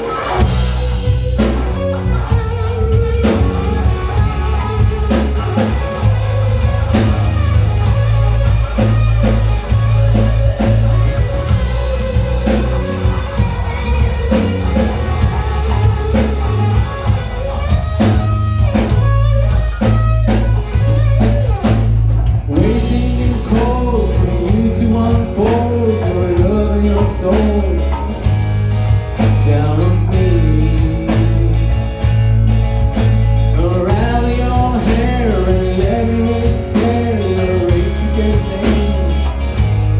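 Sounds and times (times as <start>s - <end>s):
rock band playing live: 0.0s - 39.9s
sung lead melody: 0.0s - 39.9s.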